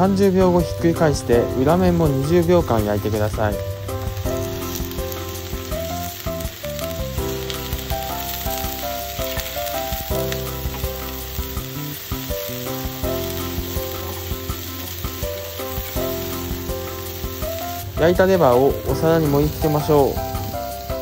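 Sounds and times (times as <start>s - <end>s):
background music: 0.0s - 21.0s
liver sizzling in a frying pan: 0.0s - 21.0s.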